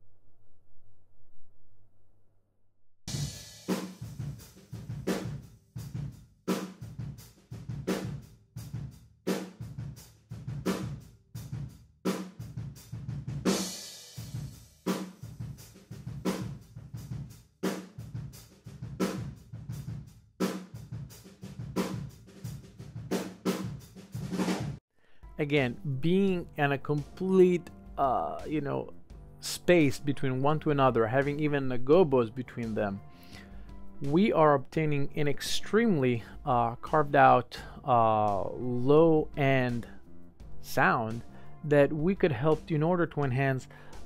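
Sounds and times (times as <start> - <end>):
drum kit playing groove: 3.1 - 24.8, 25.4 - 44.0.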